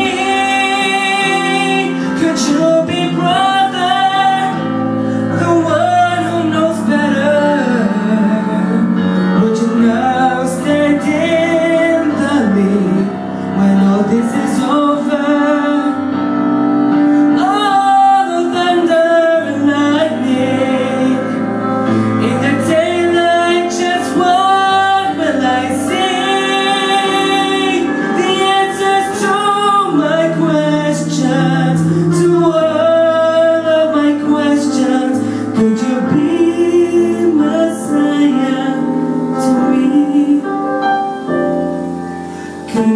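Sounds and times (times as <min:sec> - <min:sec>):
instrumental backing: 0:00.0 - 0:42.9
person singing worship ballad: 0:00.0 - 0:42.9.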